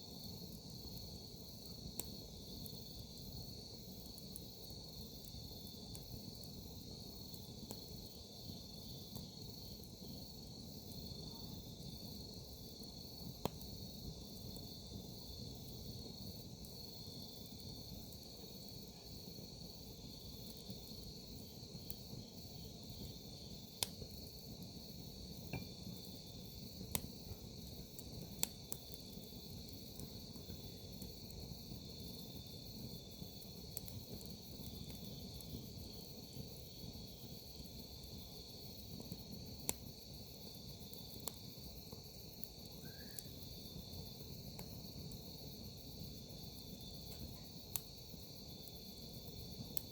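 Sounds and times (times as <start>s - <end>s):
campfire hiss: 0.0s - 49.9s
crickets chirping: 0.0s - 49.9s
firewood crackling and popping: 0.2s - 49.9s.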